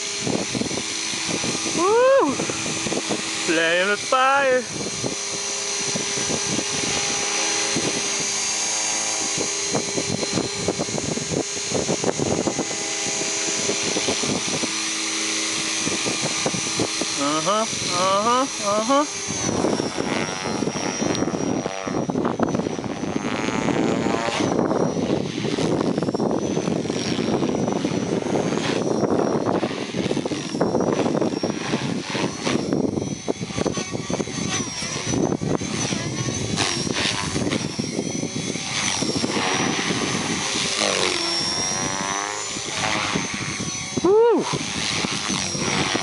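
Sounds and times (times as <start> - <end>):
rc helicopter motor whine: 0.0 - 46.0
steady rushing noise: 0.0 - 46.0.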